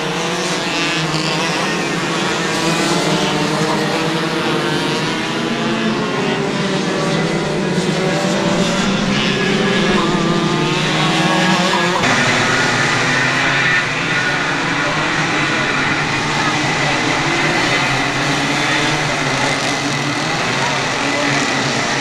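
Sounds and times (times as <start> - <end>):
go-kart engines revving: 0.0 - 22.0.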